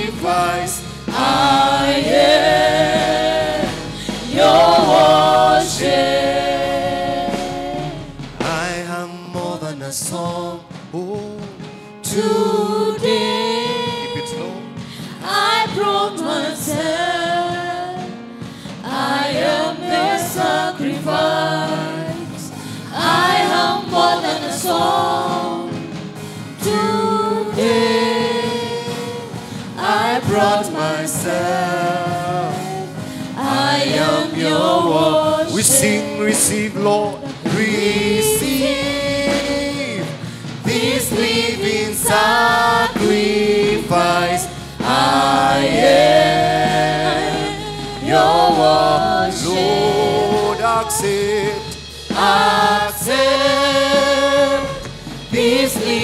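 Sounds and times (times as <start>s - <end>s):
gospel worship singing: 0.0s - 56.0s
musical accompaniment: 0.0s - 56.0s.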